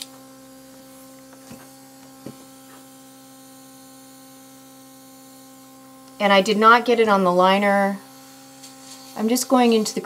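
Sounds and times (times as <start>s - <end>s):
airbrush compressor humming: 0.0s - 10.0s.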